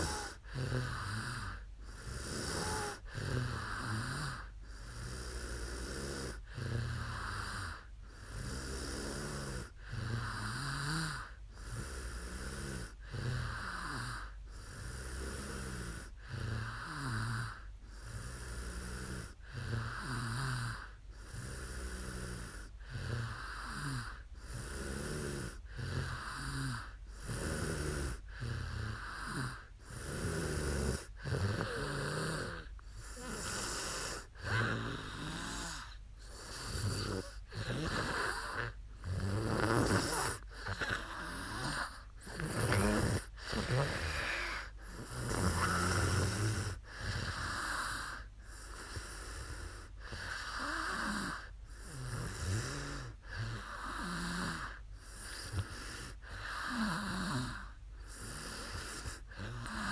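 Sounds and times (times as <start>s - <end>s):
woman snoring: 0.0s - 59.9s.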